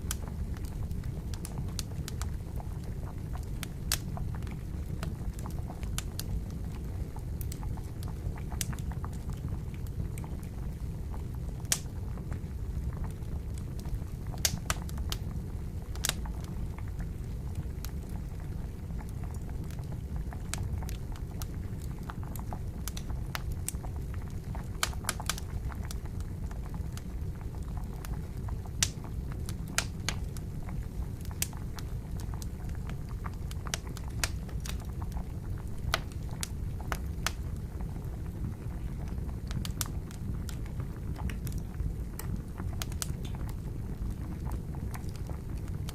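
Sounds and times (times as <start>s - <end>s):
campfire crackling and popping: 0.0s - 45.9s
water boiling: 0.0s - 45.9s.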